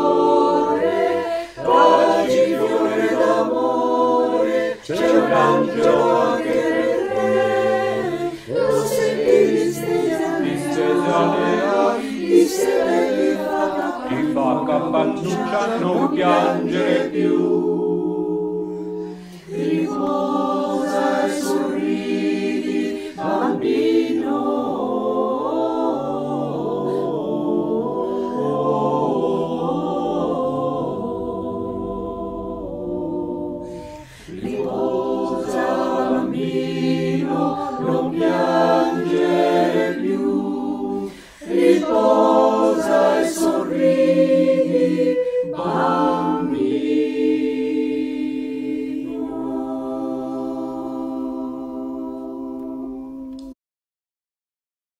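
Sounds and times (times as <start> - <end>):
choir singing a cappella: 0.0 - 53.6.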